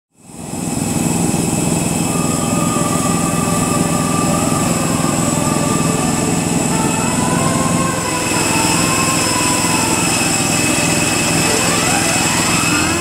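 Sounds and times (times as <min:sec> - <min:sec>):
jet turbine whine: 0:00.1 - 0:13.0
wavering mid-pitched tone: 0:01.4 - 0:13.0.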